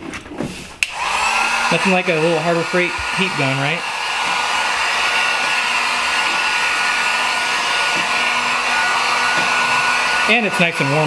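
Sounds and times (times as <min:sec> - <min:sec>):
heat gun fan rushing air: 0:00.8 - 0:11.0.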